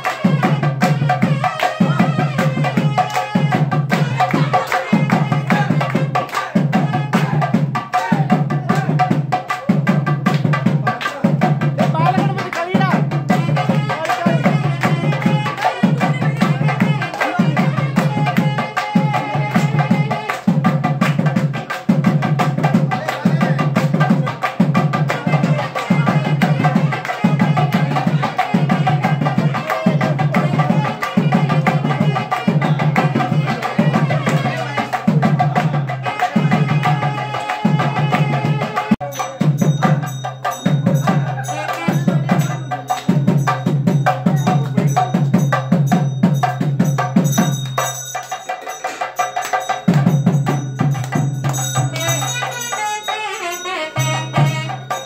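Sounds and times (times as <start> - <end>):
barrel drum beating: 0.0 - 48.7, 49.3 - 52.8.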